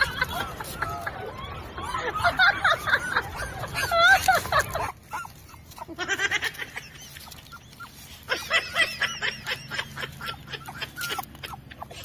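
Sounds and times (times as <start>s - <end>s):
footsteps on dry leaves: 0.0s - 11.4s.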